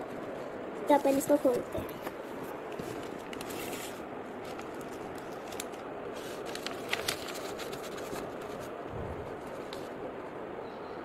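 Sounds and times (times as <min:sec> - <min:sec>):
steady background hiss: 0:00.0 - 0:11.0
card paper rustling and crackling: 0:00.1 - 0:10.0.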